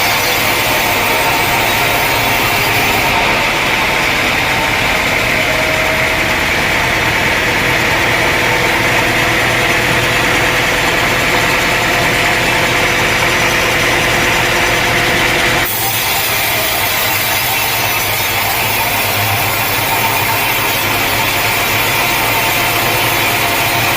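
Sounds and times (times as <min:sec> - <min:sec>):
high whine: 0:00.0 - 0:23.9
sawmill engine drone: 0:00.0 - 0:23.9.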